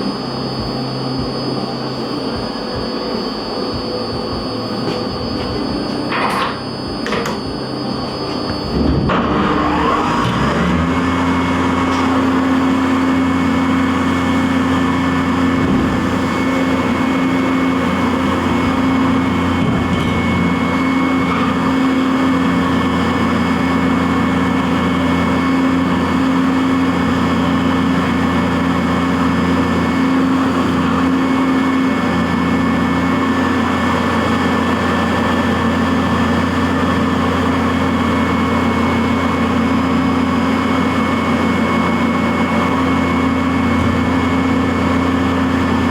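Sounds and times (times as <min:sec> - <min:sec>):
high machine tone: 0:00.0 - 0:45.9
milling machine humming: 0:00.0 - 0:45.9.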